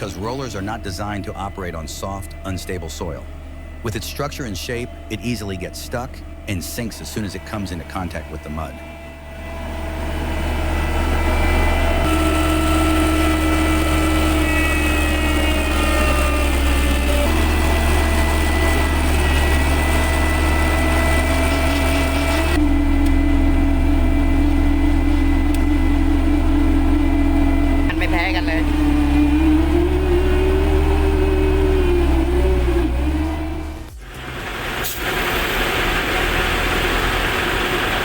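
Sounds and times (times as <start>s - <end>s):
diesel machinery engine drone: 0.0s - 38.0s
high machine whine: 0.0s - 38.0s.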